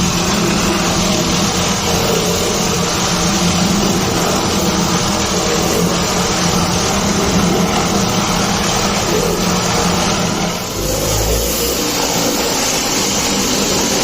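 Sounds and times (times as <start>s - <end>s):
machine motor humming: 0.0s - 14.0s.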